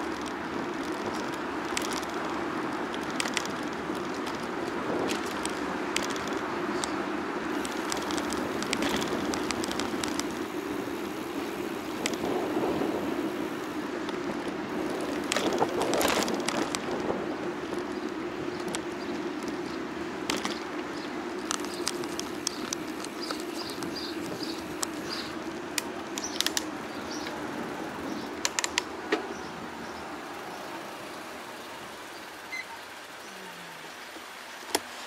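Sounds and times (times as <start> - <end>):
bike clicks and rattles: 0.0 - 32.2
bicycle tyres humming on road: 0.0 - 35.0
wind: 0.0 - 35.0.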